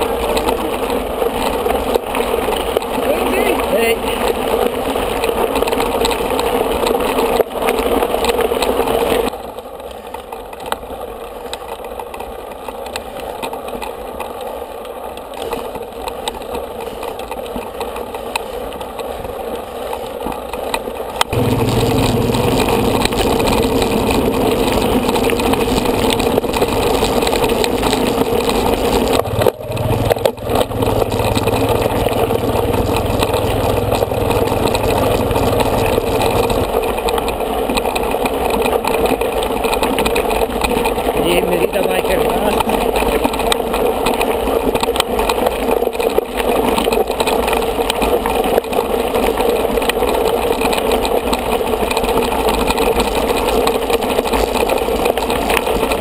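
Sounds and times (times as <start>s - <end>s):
bike rattling over gravel: 0.0s - 56.0s
motorcycle engine hum: 0.0s - 56.0s
wind: 0.0s - 56.0s.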